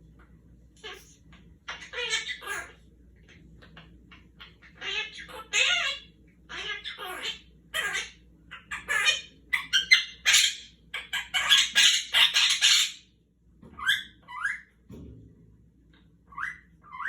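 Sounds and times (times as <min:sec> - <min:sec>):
parrot chattering and squawking: 0:00.8 - 0:13.1, 0:13.8 - 0:14.8, 0:16.3 - 0:17.0.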